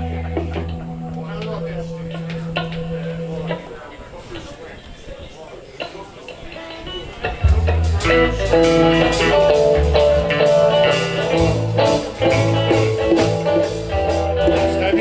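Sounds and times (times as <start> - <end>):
rock band playing: 0.0 - 4.2, 5.8 - 15.0.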